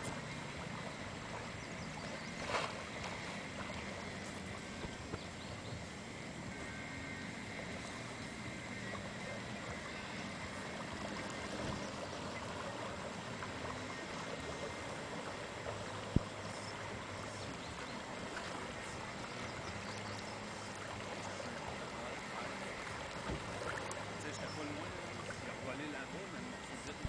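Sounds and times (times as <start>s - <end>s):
lake water lapping: 0.0s - 27.0s.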